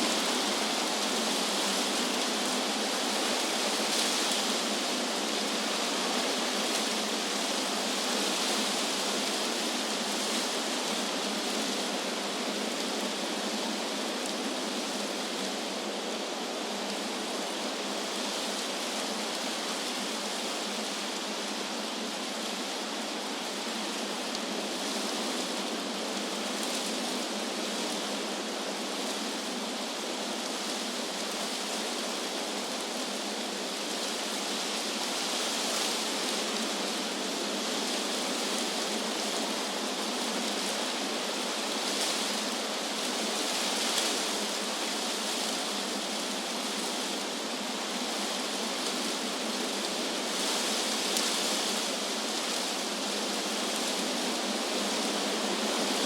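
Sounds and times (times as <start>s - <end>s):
wind rustling leaves: 0.0s - 56.0s.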